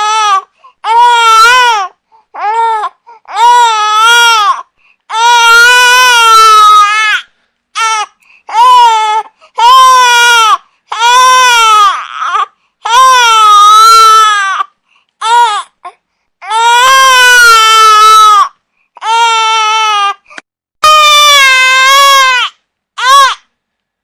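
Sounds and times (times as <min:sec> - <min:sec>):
infant crying: 0:00.0 - 0:20.2, 0:20.8 - 0:23.4.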